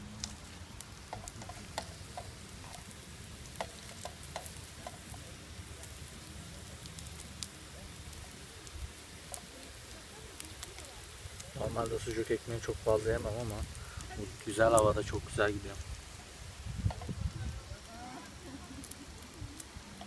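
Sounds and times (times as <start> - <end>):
crackles and pops: 0.0 - 20.0
sausage sizzling in oil: 0.0 - 20.0.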